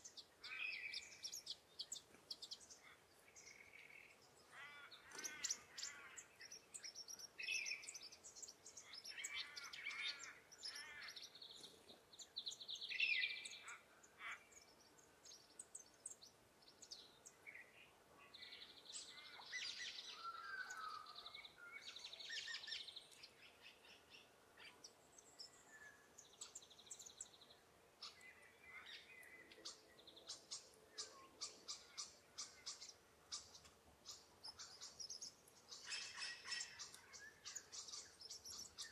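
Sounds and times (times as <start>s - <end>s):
wild birds chirping and trilling: 0.0s - 38.9s.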